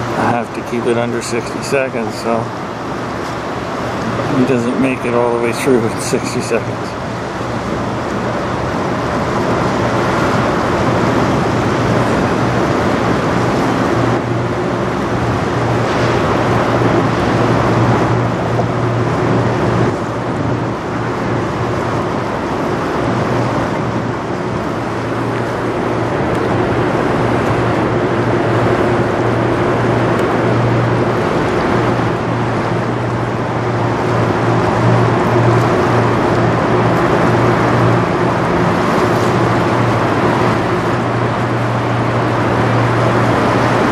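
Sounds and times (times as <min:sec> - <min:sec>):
rushing water wash: 0:00.0 - 0:43.9
ship engine drone: 0:00.0 - 0:43.9.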